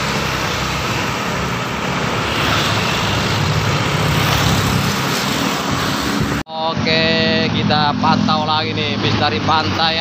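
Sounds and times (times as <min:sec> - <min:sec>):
tyre and road noise: 0:00.0 - 0:10.0.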